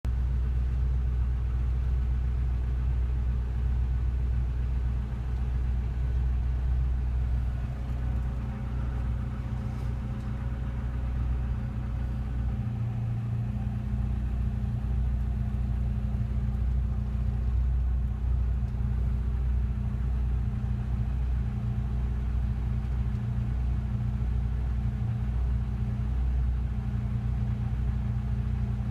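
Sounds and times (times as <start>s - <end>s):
car engine idling: 0.1s - 28.9s.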